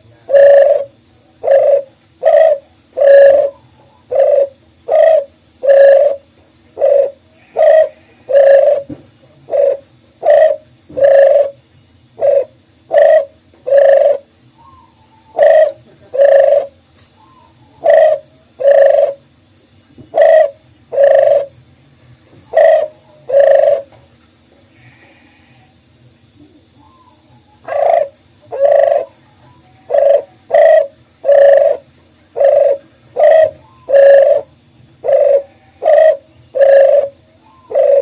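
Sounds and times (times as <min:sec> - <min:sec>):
dove cooing: 0:00.0 - 0:11.6, 0:12.2 - 0:19.3, 0:20.0 - 0:21.6, 0:22.4 - 0:24.0, 0:26.6 - 0:38.0.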